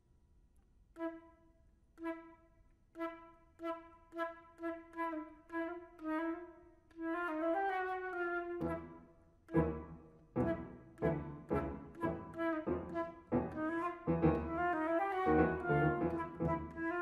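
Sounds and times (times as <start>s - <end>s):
flute and piano chamber music: 3.0s - 17.0s.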